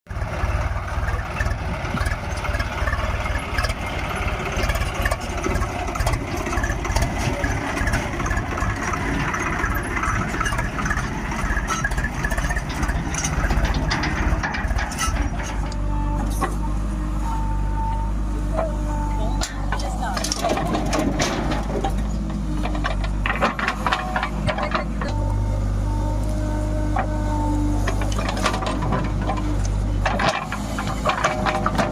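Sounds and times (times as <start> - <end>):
heavy diesel engine running: 0.1 - 31.9
metal knocks and clanks: 1.4 - 16.9, 19.3 - 25.3, 27.8 - 31.9.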